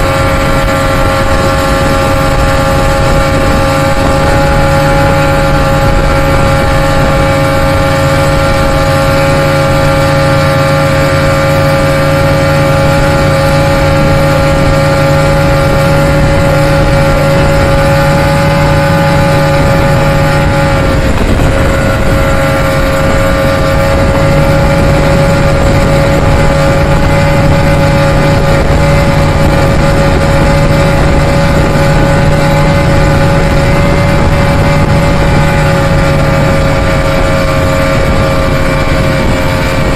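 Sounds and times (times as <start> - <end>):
outboard motor running: 0.0 - 39.9
water rushing: 0.0 - 39.9
wind: 0.0 - 39.9.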